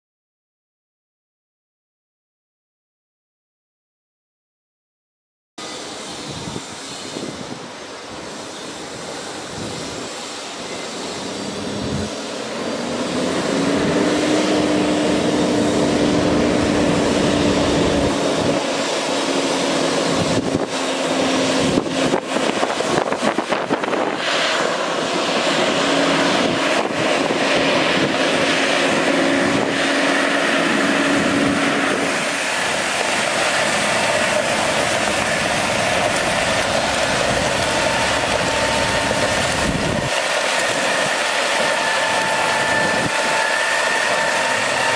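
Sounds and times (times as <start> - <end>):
water spray hissing: 5.6 - 44.9
truck diesel engine running: 8.1 - 44.9.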